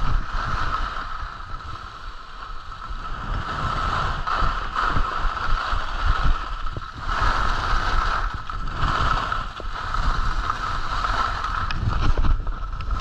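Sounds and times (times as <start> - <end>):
skis scraping over snow: 0.0 - 13.0
wind rumbling on microphone: 0.0 - 13.0.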